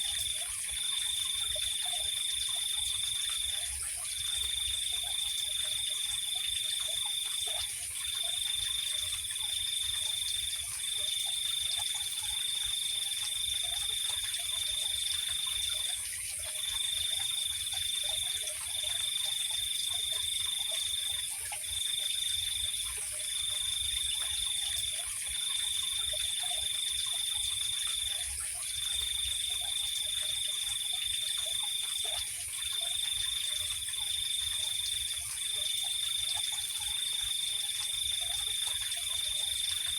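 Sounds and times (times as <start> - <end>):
cricket trilling: 0.0 - 39.9
faint low insect calls: 0.0 - 39.9.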